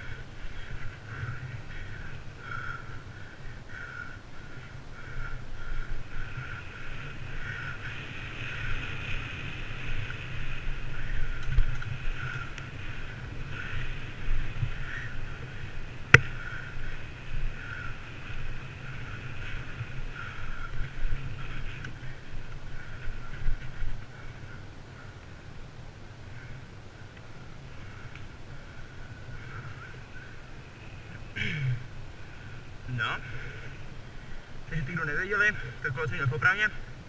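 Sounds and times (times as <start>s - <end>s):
bicycle rolling noise: 0.0s - 37.0s
wind buffeting microphone: 0.0s - 37.0s.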